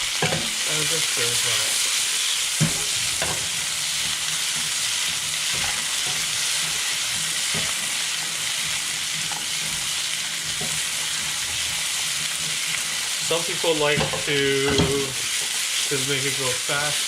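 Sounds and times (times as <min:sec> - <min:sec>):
spatula scraping pan: 0:00.0 - 0:16.3
vegetables sizzling in oil: 0:00.0 - 0:17.0.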